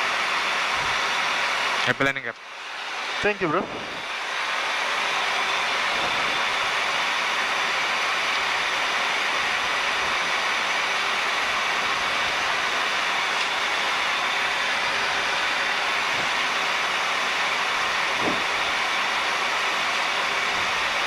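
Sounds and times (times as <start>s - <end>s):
cockpit airflow and engine noise: 0.0s - 21.0s.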